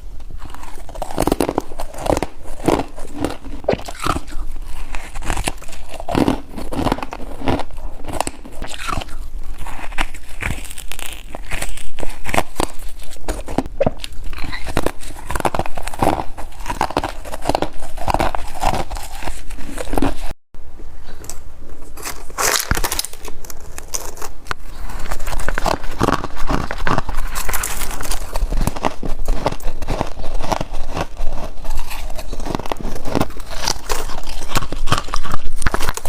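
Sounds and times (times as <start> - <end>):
ice being chewed crunching: 0.2 - 20.4, 22.0 - 36.0.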